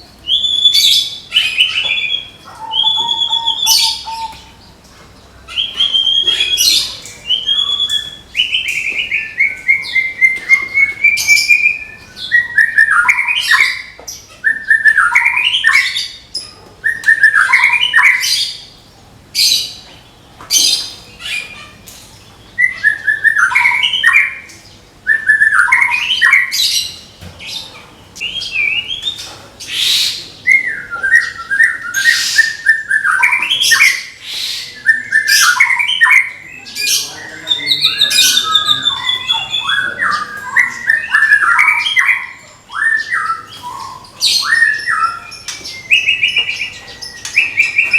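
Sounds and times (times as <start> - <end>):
bird singing whistled phrases: 0.2 - 4.5, 5.5 - 16.2, 16.8 - 18.6, 22.6 - 26.9, 29.8 - 47.9.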